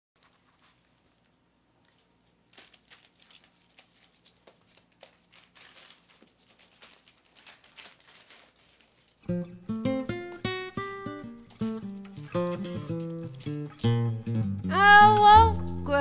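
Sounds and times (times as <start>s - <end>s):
newspaper crinkling under paws: 0.2s - 14.0s.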